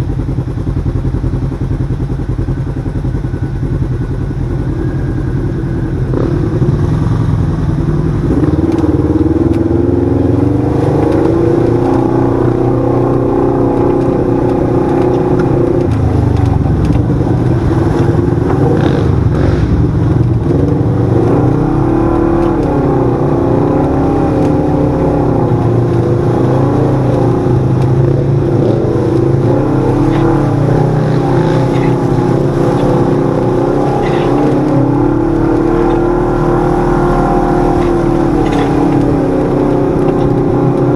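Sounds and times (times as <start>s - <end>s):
utility vehicle engine running: 0.0s - 40.9s.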